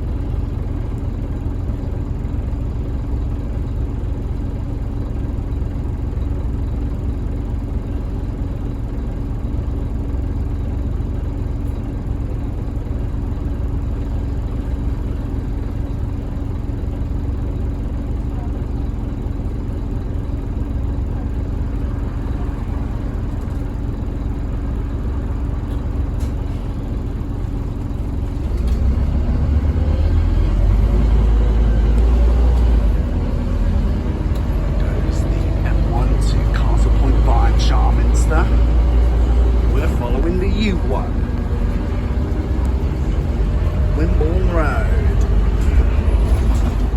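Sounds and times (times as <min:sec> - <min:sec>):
bus diesel engine droning: 0:00.0 - 0:46.9.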